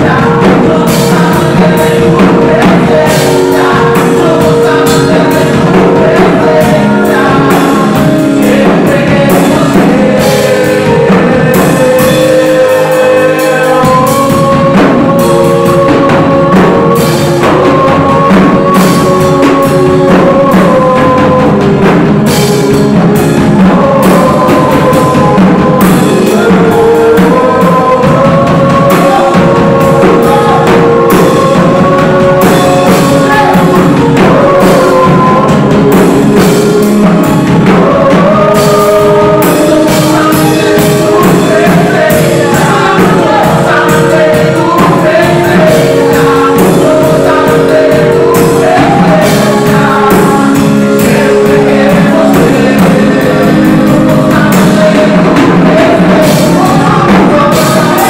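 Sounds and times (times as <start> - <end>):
drum kit: 0.0 - 58.0
keyboard: 0.0 - 58.0
man singing into a microphone: 0.0 - 58.0.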